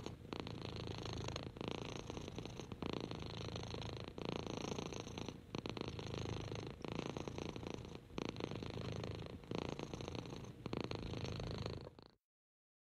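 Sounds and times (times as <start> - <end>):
kitten purring: 0.0 - 12.2.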